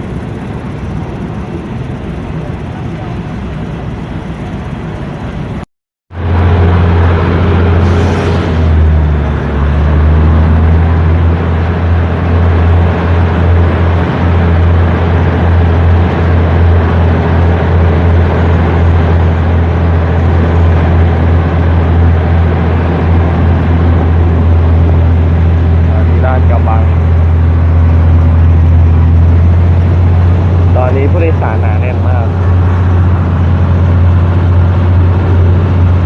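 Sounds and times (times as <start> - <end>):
passenger train rumbling: 0.0 - 36.0.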